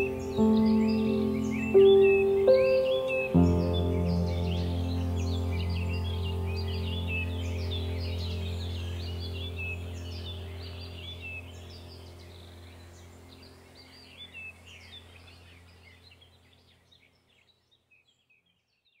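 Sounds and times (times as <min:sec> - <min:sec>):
low steady hum: 0:00.0 - 0:17.0
birds chirping: 0:00.0 - 0:19.0.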